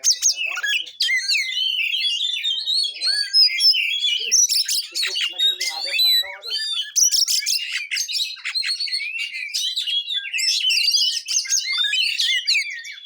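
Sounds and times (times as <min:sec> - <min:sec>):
bird singing rapid varied song: 0:00.0 - 0:13.0.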